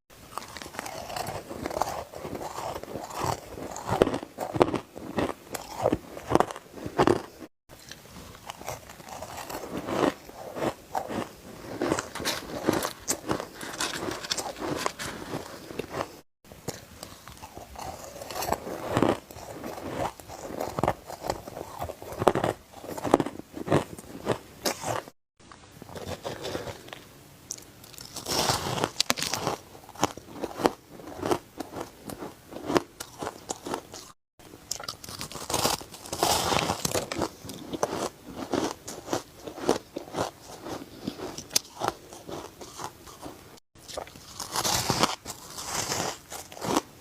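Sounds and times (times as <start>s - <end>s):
ice being chewed: 0.3s - 25.2s, 25.9s - 47.0s.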